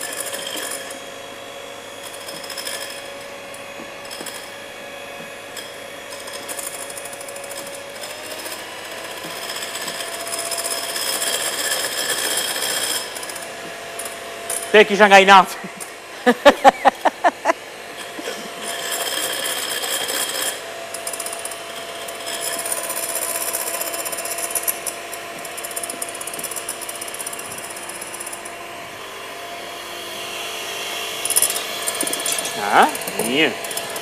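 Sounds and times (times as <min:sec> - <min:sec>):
electric hand mixer running: 0:00.0 - 0:34.0.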